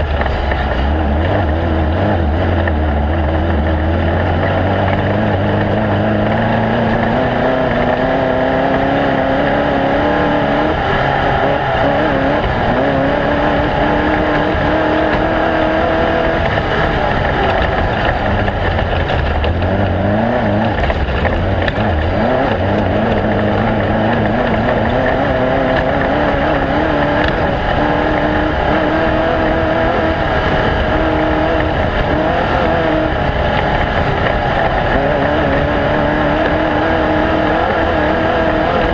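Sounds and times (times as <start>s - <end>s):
race vehicle engine accelerating: 0.0s - 38.9s
steady rushing noise: 0.0s - 38.9s.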